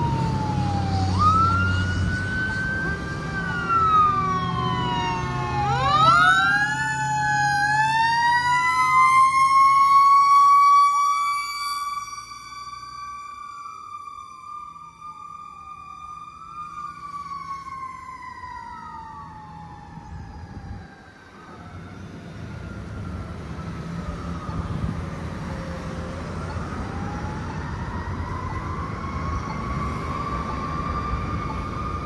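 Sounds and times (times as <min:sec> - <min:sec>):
fire engine siren wailing: 0:00.0 - 0:32.0
passing cars rumble: 0:00.0 - 0:32.0.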